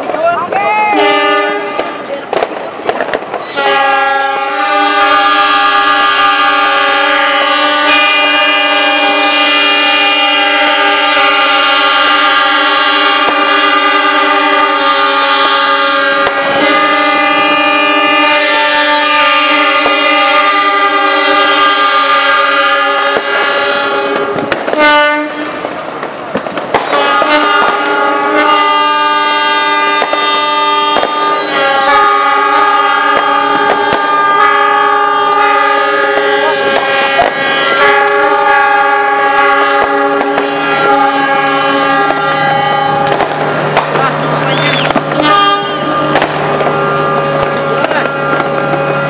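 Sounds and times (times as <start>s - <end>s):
locomotive air horns blasting: 0.9s - 2.4s, 3.4s - 26.0s, 26.7s - 49.0s.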